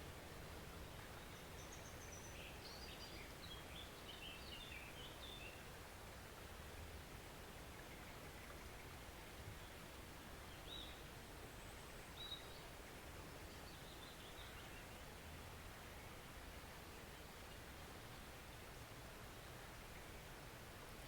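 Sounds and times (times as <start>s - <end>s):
forest stream flowing: 0.0s - 21.0s.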